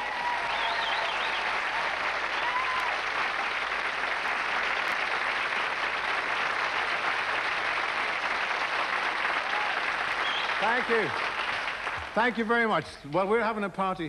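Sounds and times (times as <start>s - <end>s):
studio audience applauding: 0.0s - 12.8s.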